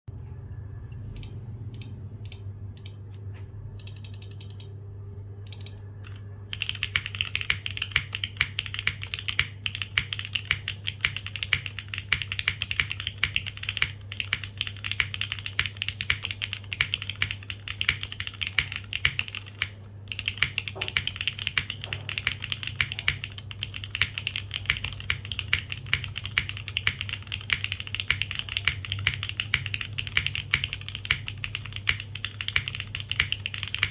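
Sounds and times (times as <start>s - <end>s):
mechanical keyboard typing: 3.7s - 4.7s, 5.5s - 33.9s.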